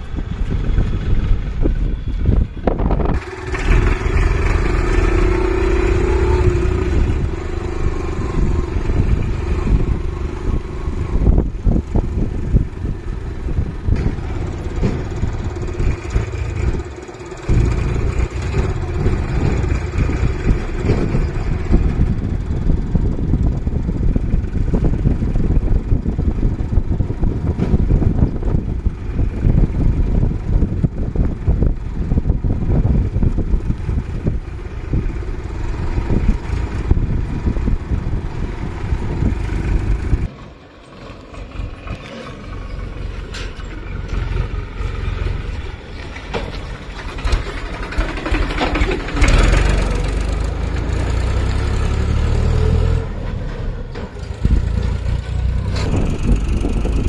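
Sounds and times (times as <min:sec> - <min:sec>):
rough road noise: 0:00.0 - 0:57.0
tractor diesel engine running: 0:00.0 - 0:57.0
wind noise: 0:00.0 - 0:57.0.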